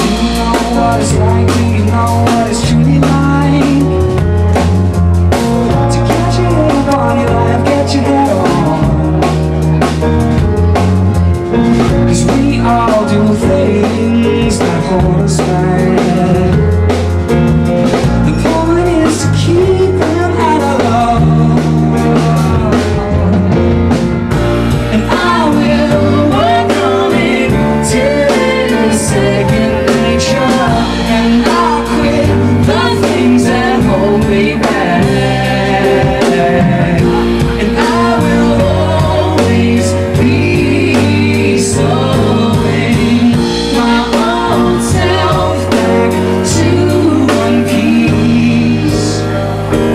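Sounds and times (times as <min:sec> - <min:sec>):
person singing: 0:00.0 - 0:04.4, 0:05.7 - 0:10.7, 0:11.5 - 0:16.8, 0:17.9 - 0:24.0, 0:24.8 - 0:49.9
drum kit: 0:00.0 - 0:49.9
piano: 0:00.0 - 0:49.9.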